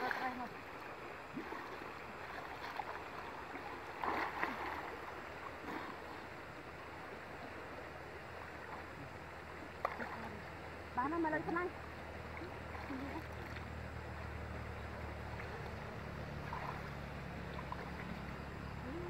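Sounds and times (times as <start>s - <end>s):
water sloshing around swimmers: 0.0s - 19.0s.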